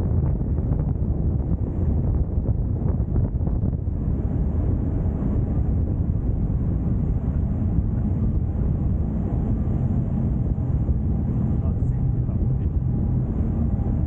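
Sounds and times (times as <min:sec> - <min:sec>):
ship under way: 0:00.0 - 0:14.0
wind buffeting microphone: 0:00.0 - 0:14.0.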